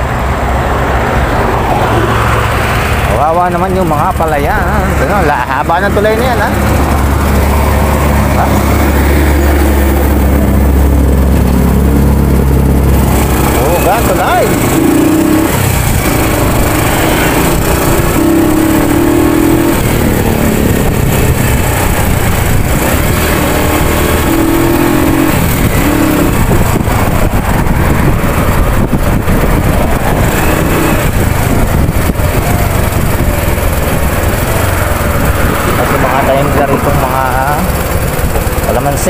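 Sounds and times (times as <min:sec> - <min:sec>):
motorcycle engine running: 0:02.0 - 0:39.0
wind noise on microphone: 0:06.5 - 0:38.7.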